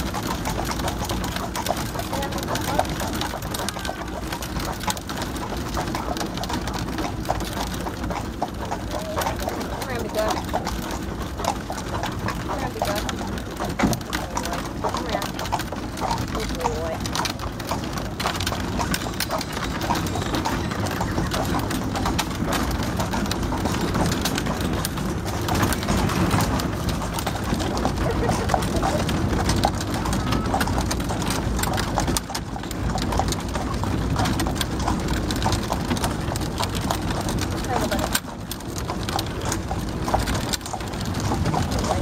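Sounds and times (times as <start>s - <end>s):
buggy wheels rumbling on road: 0.0s - 42.0s
horse hooves clip-clopping on road: 0.0s - 42.0s.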